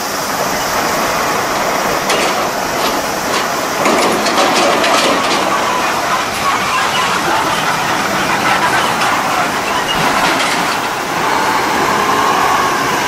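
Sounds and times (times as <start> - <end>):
heavy diesel trucks passing: 0.0 - 13.0
metallic rattles and clanks: 0.5 - 11.1.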